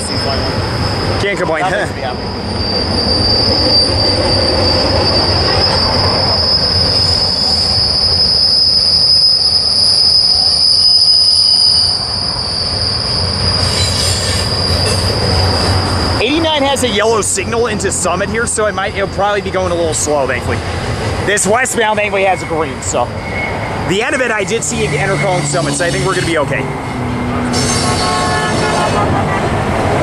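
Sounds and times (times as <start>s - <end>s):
train wheels squealing on rail: 0.0s - 29.9s
low rumble of freight cars: 0.0s - 30.0s.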